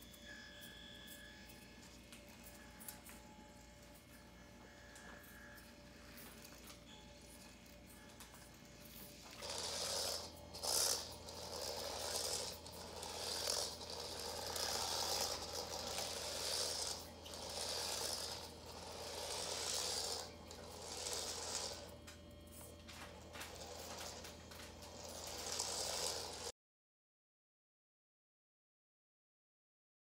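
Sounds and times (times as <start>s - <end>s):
toy car motor buzzing: 0.0s - 26.5s.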